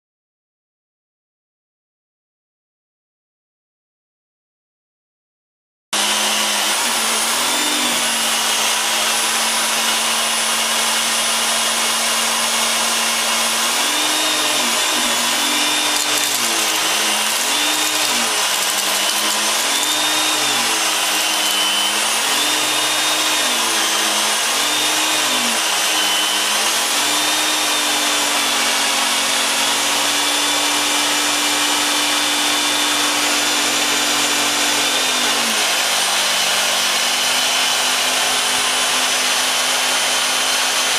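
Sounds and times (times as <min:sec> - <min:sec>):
vacuum cleaner running: 0:06.0 - 0:40.9.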